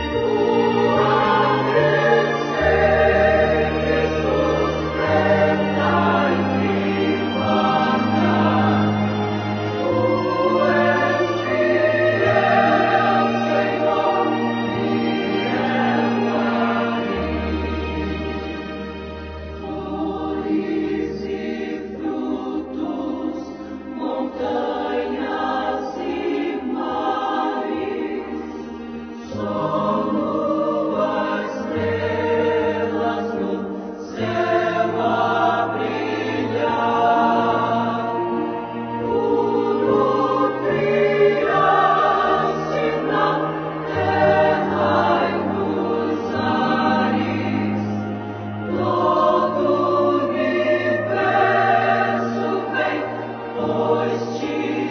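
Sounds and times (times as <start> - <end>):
choir singing gospel music: 0.0 - 54.9.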